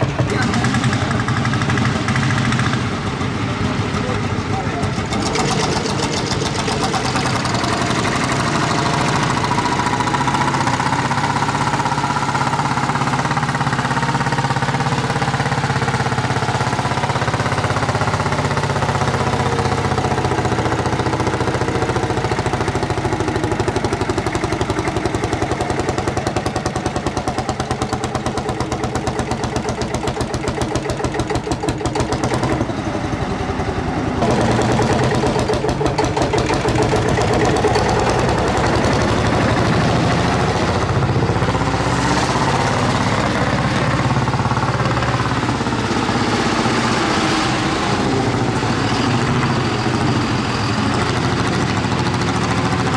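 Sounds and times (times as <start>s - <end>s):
tractor engine chugging: 0.0s - 52.9s.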